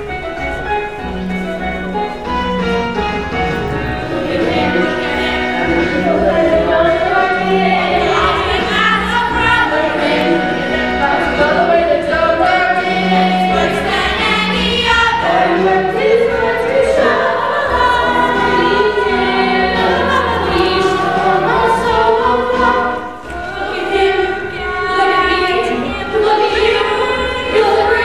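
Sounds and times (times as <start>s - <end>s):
musical accompaniment: 0.0s - 28.0s
chorus singing a show tune: 3.3s - 28.0s.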